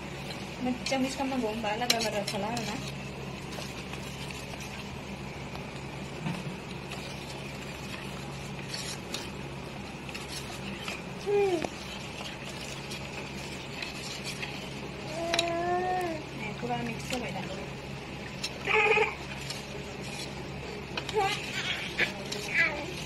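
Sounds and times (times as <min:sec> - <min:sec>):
spoon stirring in steel bowl: 0:00.0 - 0:15.6, 0:16.2 - 0:23.0.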